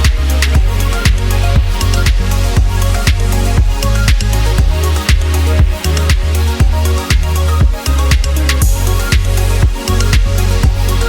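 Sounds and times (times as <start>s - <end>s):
kick drum beat: 0.0s - 10.9s
electronic dance music: 0.0s - 11.0s.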